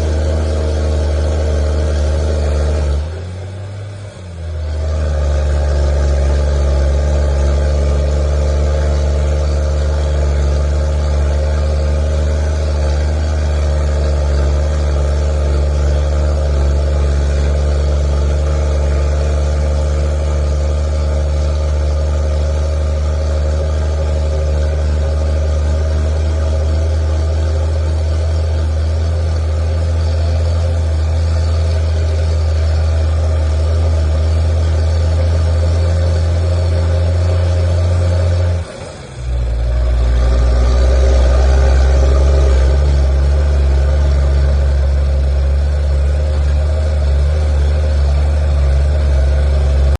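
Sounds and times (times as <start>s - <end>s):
truck engine rumbling: 0.0s - 49.9s.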